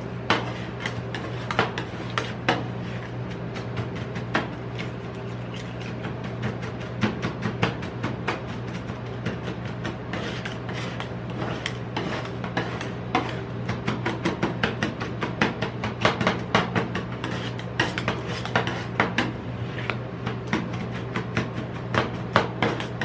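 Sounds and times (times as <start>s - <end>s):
steady low hum: 0.0s - 23.0s
metal spatulas chopping and scraping: 0.2s - 23.0s.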